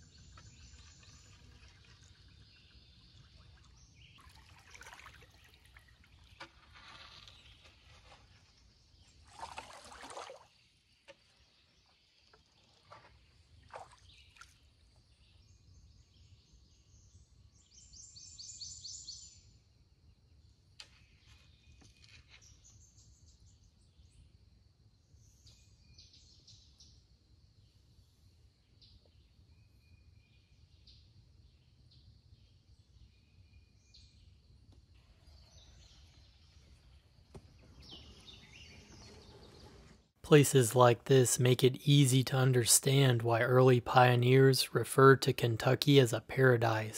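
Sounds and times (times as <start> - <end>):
songbirds chirping and trilling: 0.0 - 46.9.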